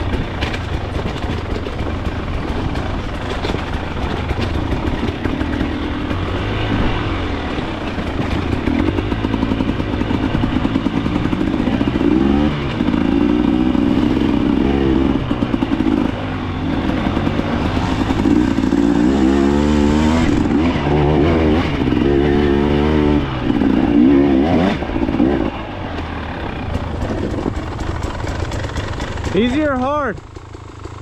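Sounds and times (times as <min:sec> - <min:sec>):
dirt bike engine revving: 0:00.0 - 0:31.0
engine clatter: 0:00.0 - 0:31.0.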